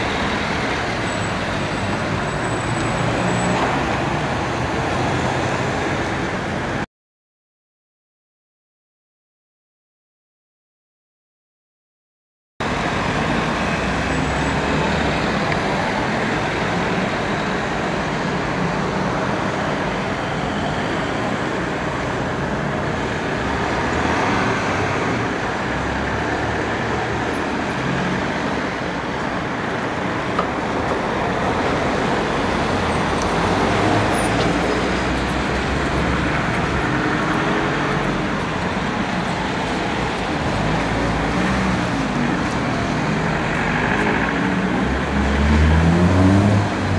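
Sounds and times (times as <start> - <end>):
passing cars: 0.0 - 6.9, 12.6 - 46.9.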